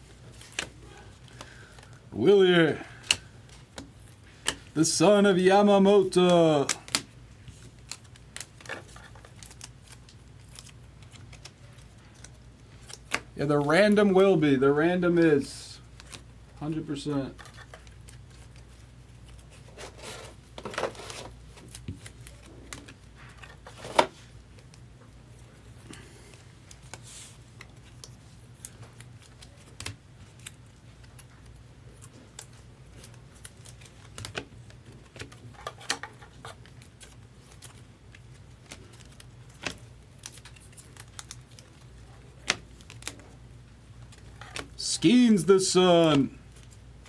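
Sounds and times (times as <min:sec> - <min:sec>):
cards rustling and clicking: 0:00.1 - 0:14.5, 0:15.8 - 0:47.0.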